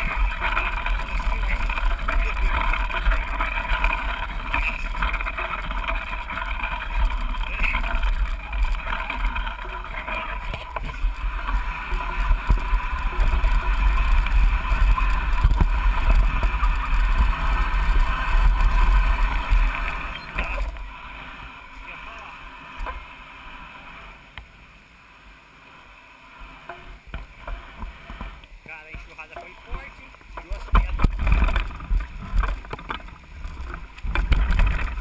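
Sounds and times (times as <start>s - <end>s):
wind buffeting microphone: 0.0s - 22.2s, 26.9s - 35.0s.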